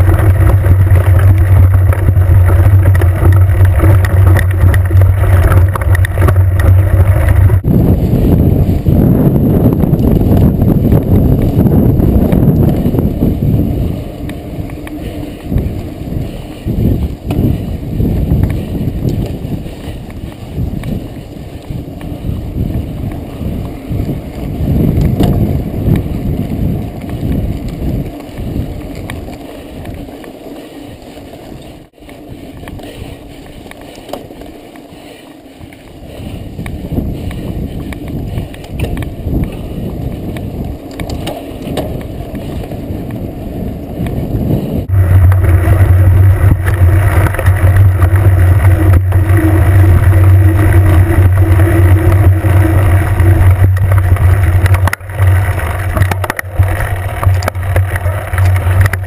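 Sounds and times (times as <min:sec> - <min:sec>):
bike rattling on dirt track: 0:00.0 - 0:59.0
low tyre drone: 0:00.0 - 0:59.0
wind rumble: 0:00.0 - 0:59.0.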